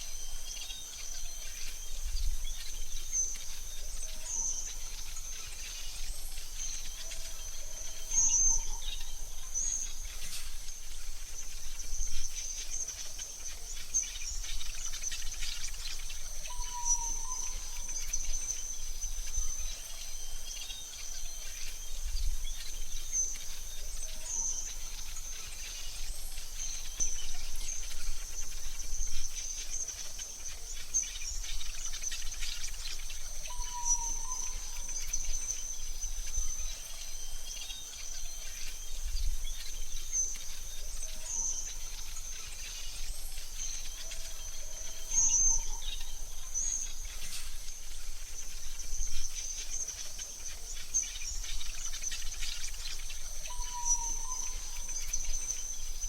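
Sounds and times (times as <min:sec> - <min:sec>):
high insect trill: 0:00.0 - 0:56.0.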